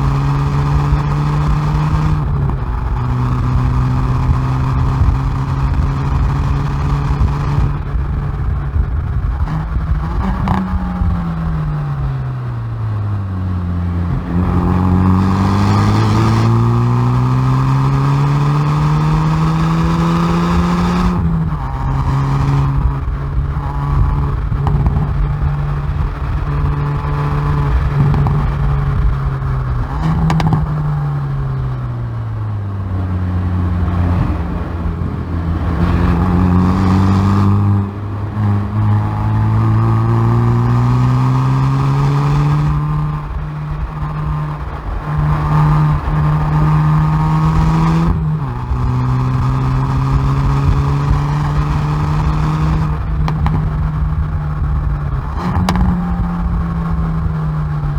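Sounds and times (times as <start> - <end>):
car engine and exhaust accelerating: 0.0 - 57.9.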